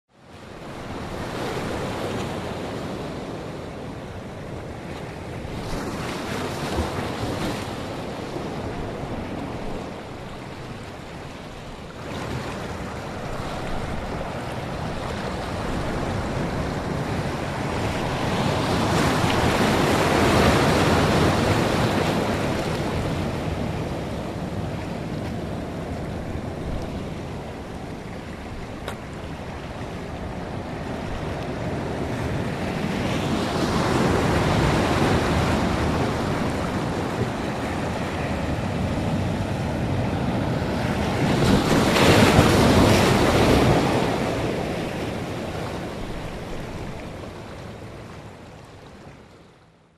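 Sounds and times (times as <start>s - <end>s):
ocean waves washing: 0.1s - 49.8s.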